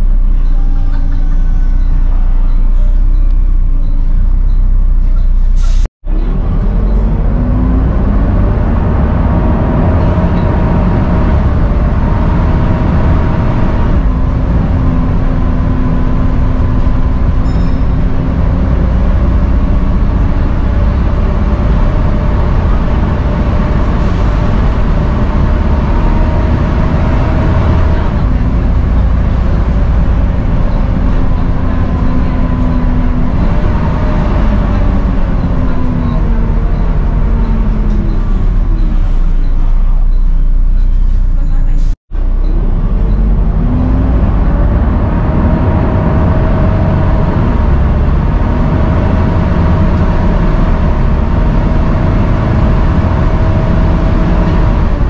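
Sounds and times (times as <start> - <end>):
diesel bus engine whining: 0.0 - 55.0.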